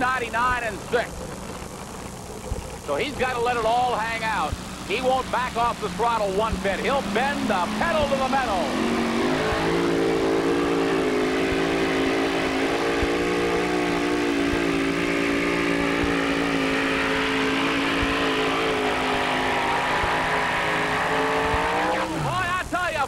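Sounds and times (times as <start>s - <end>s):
pulling truck engine at full revs: 2.9s - 22.6s.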